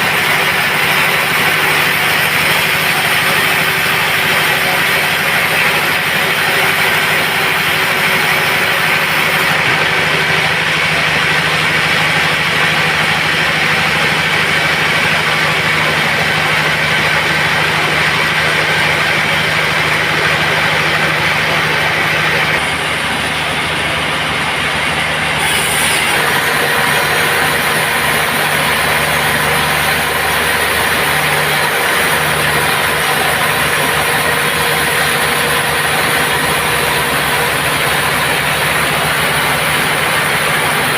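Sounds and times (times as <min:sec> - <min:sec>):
band saw whirring: 0:00.0 - 0:40.9.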